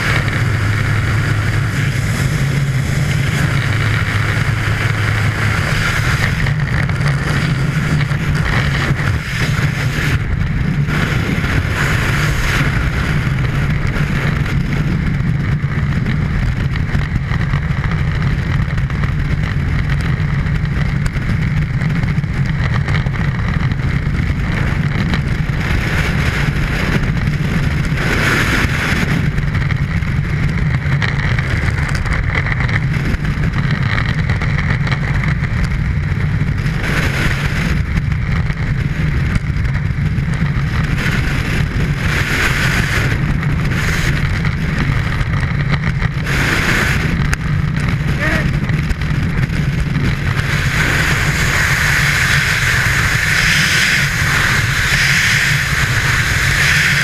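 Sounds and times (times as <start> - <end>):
freefall wind buffeting microphone: 0.0 - 57.0.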